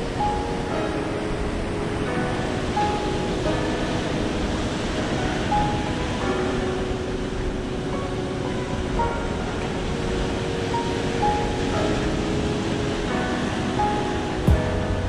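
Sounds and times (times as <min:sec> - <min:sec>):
low wind rumble: 0:00.0 - 0:15.0
soft music of held notes: 0:00.0 - 0:15.0.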